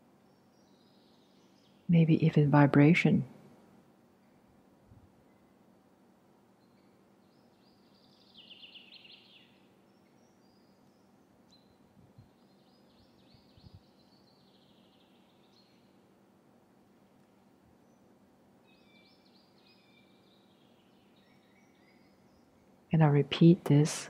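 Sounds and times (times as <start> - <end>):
trilled birdsong: 0.0 - 2.8, 4.1 - 24.0
low steady hum: 0.0 - 24.0.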